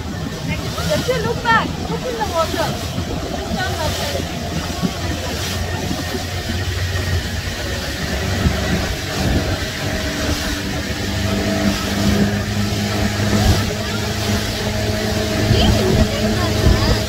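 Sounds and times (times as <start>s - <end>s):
motorboat engine running: 0.0s - 17.0s
water rushing past hull: 0.0s - 17.0s.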